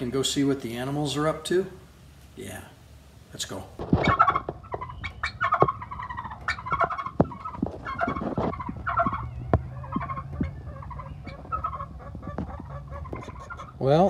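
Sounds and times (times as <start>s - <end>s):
turkeys gobbling: 0.0s - 14.0s.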